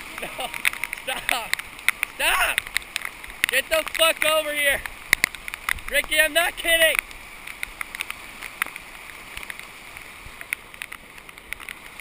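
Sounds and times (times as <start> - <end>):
floodwater rushing: 0.0 - 12.0
raindrops ticking on camera: 0.0 - 12.0.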